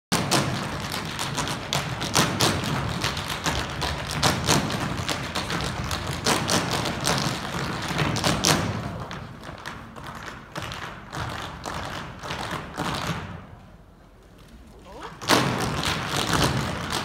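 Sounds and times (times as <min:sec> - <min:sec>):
dancers stomping and tapping: 0:00.2 - 0:13.4, 0:15.2 - 0:17.0.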